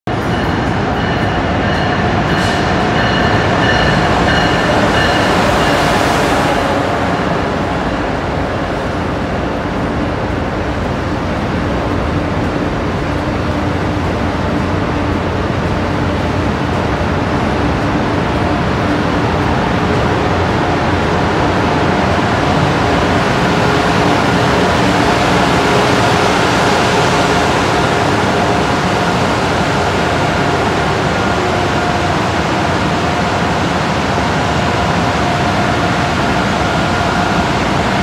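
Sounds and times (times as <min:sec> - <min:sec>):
train power car whine: 0:00.1 - 0:38.0
train wheels on rail: 0:00.1 - 0:38.0.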